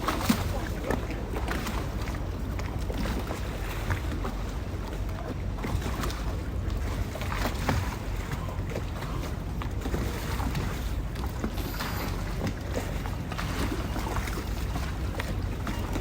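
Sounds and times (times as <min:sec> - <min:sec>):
boats knocking: 0:00.0 - 0:16.0
water lapping against boats: 0:00.0 - 0:16.0.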